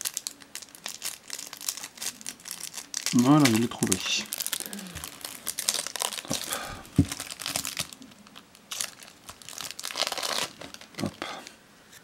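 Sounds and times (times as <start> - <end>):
foil wrapper crinkling and tearing: 0.0 - 11.5.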